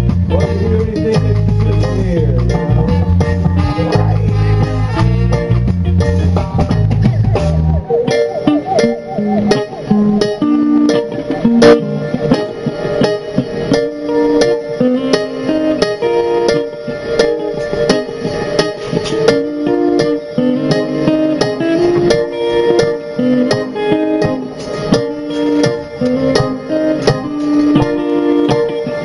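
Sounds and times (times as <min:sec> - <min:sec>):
electric guitar melody: 0:00.0 - 0:29.0.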